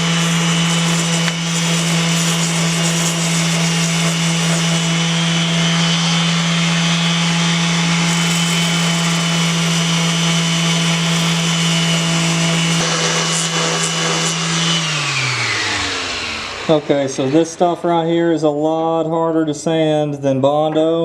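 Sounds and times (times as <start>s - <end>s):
electric sander grinding plastic: 0.0s - 17.6s.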